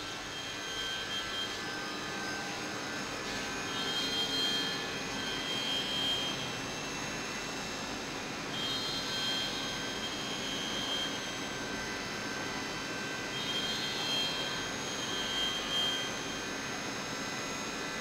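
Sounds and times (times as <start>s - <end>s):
high machine whine: 0.0s - 18.0s
milling machine hum: 0.0s - 18.0s.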